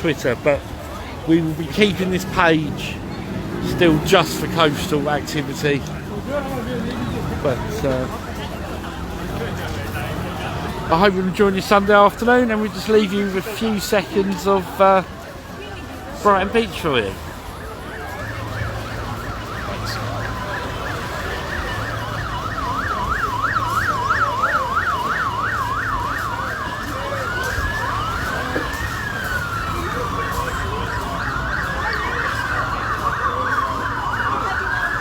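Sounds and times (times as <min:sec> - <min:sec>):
police sirens wailing and yelping: 0:00.0 - 0:35.0.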